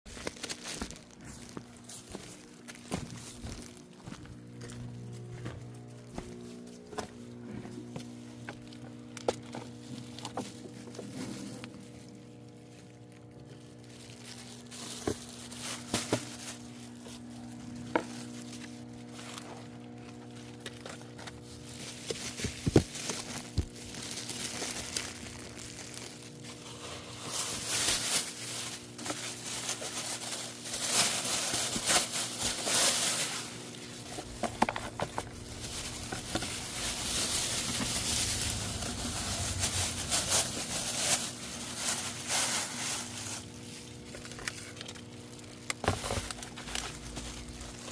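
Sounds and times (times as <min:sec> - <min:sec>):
packaging crinkling and rustling: 0:00.1 - 0:47.9
steady low hum: 0:00.9 - 0:47.9.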